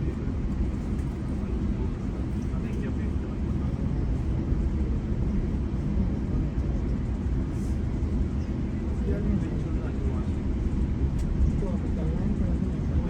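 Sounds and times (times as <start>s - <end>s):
train coach rumbling on track: 0.0s - 13.0s.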